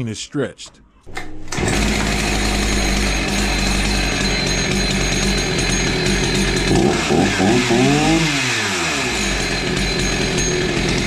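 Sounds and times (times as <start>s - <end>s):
chainsaw engine idling and revving: 1.5s - 11.0s.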